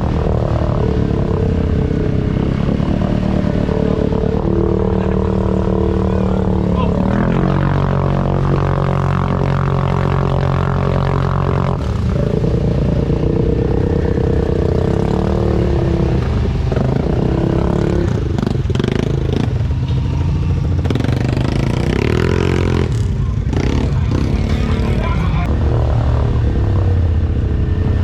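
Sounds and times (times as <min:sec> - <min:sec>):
atv engine idling and revving: 0:00.0 - 0:28.0.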